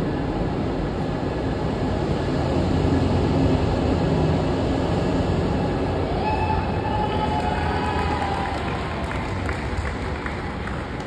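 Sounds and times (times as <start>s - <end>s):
train locomotive rumble: 0.0s - 11.0s.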